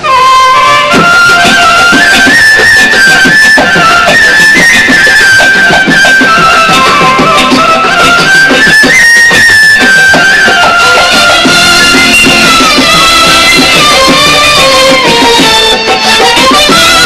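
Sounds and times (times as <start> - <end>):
gliding melody line: 0.0 - 17.0
orchestra playing instrumental music: 0.0 - 17.0
rhythmic percussion strokes: 0.0 - 17.0.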